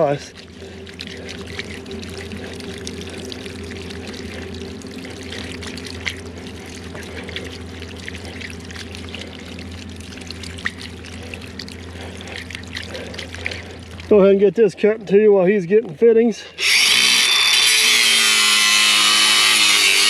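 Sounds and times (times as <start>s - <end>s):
water pouring from a pipe: 0.0s - 15.9s, 16.5s - 20.0s
low hum: 0.0s - 19.5s.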